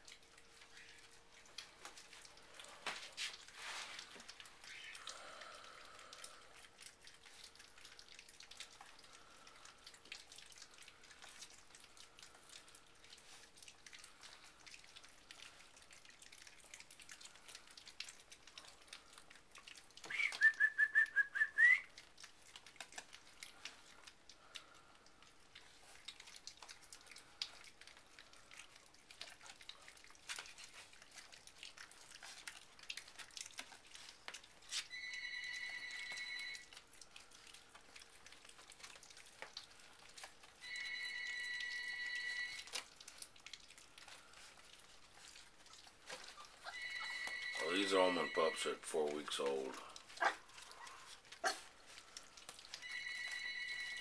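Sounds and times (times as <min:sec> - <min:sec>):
puppies lapping and chewing: 0:00.0 - 0:54.0.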